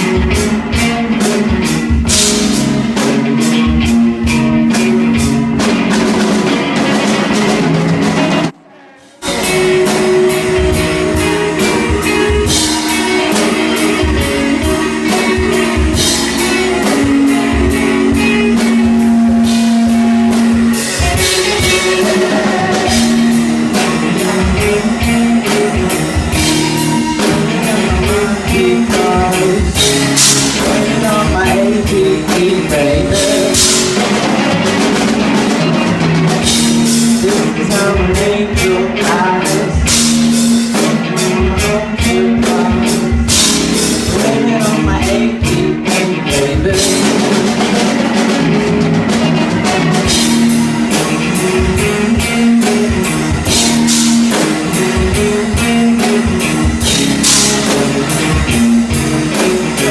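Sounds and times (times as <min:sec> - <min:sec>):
drum kit with cymbals: 0:00.0 - 0:59.9
electric guitar: 0:00.0 - 0:59.9
person singing: 0:08.4 - 0:35.8, 0:36.4 - 0:59.9.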